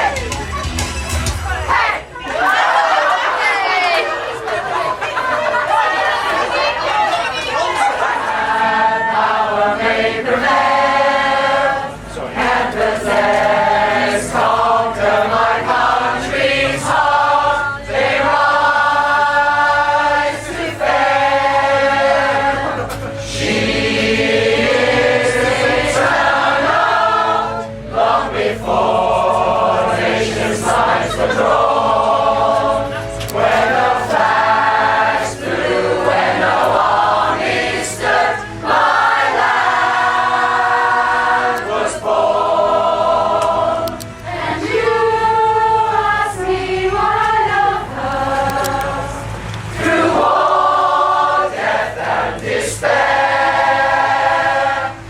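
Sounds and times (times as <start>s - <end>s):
pop choir singing in harmony: 7.6s - 55.0s.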